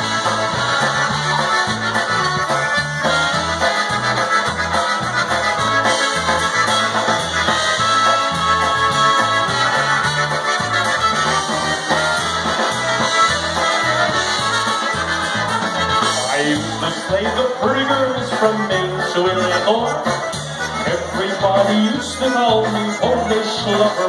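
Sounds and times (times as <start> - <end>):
accordion: 0.0 - 24.0
polka band playing: 0.0 - 24.0
trumpet: 0.0 - 24.0.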